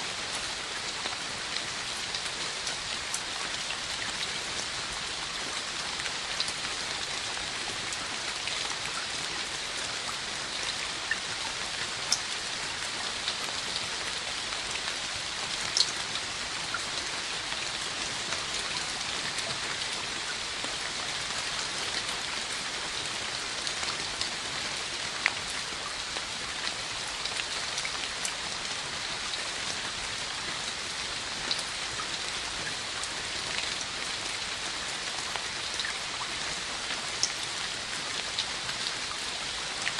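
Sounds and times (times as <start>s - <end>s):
steady rain on hard surface: 0.0s - 39.9s.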